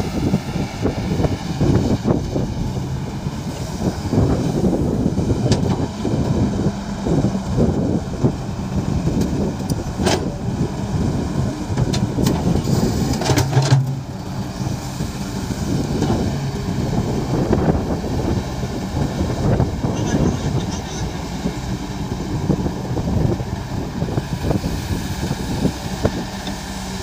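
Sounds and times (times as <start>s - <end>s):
excavator diesel engine under load: 0.0s - 27.0s.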